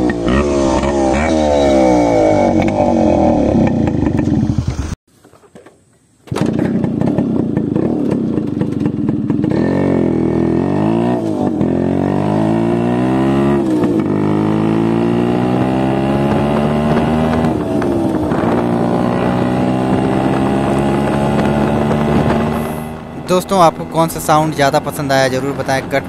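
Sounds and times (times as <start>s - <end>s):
two-stroke motorcycle accelerating: 0.0s - 5.0s, 6.3s - 26.0s.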